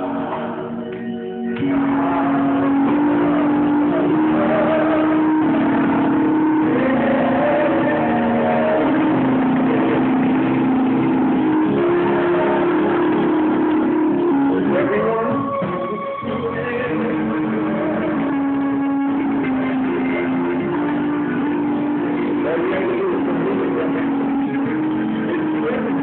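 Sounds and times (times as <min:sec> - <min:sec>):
organ-like keyboard chords: 0:00.0 - 0:26.0.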